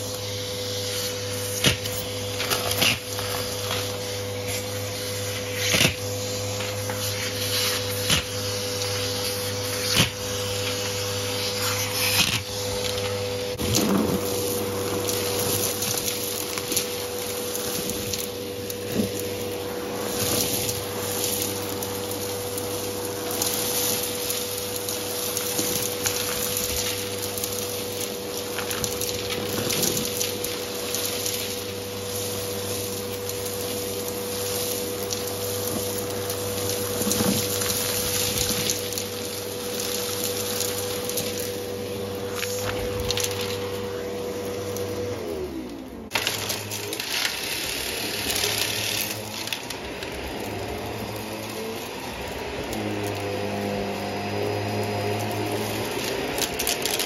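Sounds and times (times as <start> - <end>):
debris clattering up nozzle: 0.0 - 57.0
vacuum cleaner motor whine: 0.0 - 57.0.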